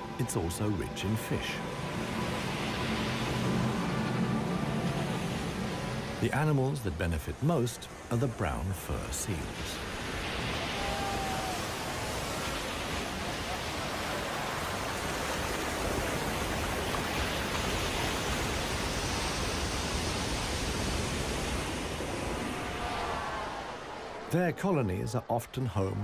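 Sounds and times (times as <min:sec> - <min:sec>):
surf breaking over rocks: 0:02.2 - 0:24.5.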